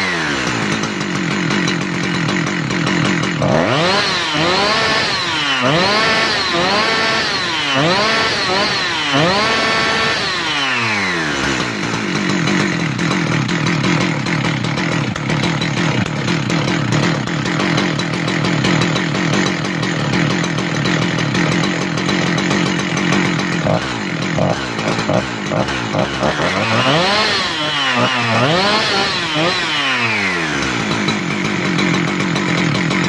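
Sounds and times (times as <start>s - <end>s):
chainsaw engine revving and idling: 0.0s - 33.0s.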